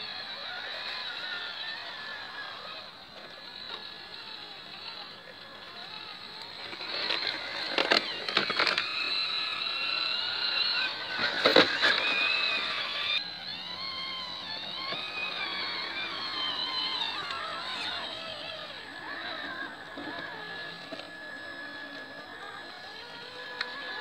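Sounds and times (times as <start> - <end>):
rc truck electric motor whining: 0.0 - 24.0.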